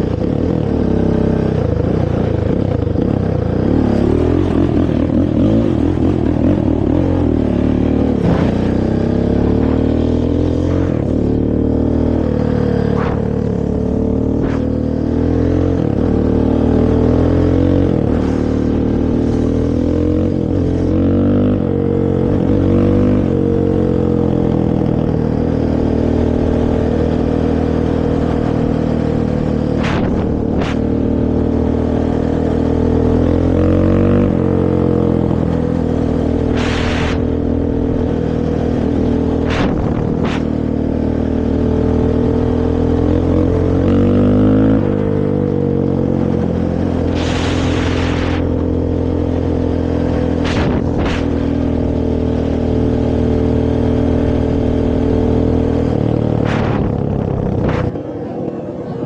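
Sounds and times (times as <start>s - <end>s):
quad engine revving: 0.0s - 58.1s.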